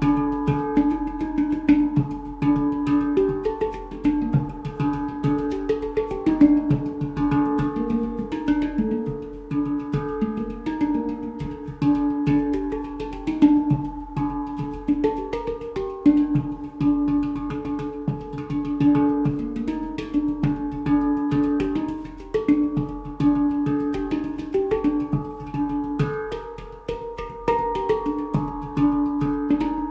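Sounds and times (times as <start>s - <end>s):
handpan notes ringing: 0.0s - 29.9s
light percussive taps: 0.0s - 29.9s.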